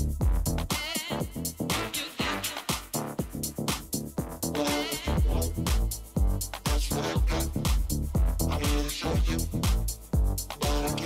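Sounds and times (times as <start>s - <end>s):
deep bass line: 0.0s - 2.0s, 2.9s - 11.0s
electronic dance music: 0.0s - 11.0s
steady kick drum: 0.0s - 11.0s.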